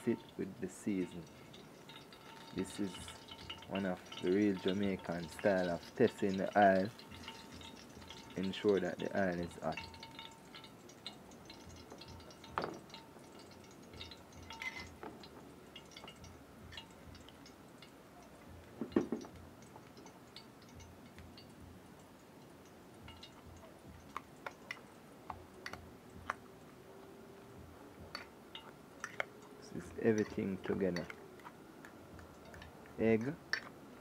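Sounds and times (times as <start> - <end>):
oil popping and crackling: 0.0 - 34.0.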